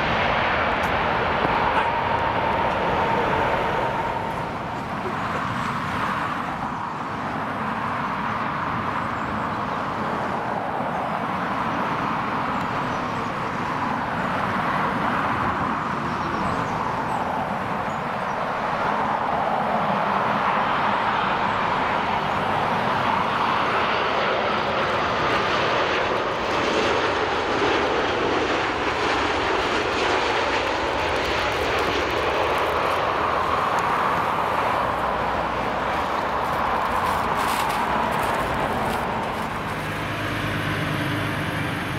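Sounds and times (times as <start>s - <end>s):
jet engines rushing: 0.0s - 41.9s.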